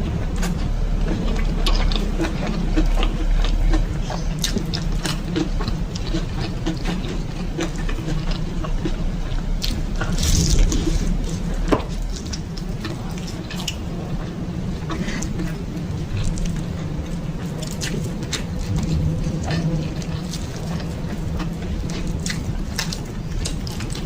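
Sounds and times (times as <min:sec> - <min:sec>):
chewing and mouth sounds: 0:00.0 - 0:24.0
low rumble: 0:00.0 - 0:24.0.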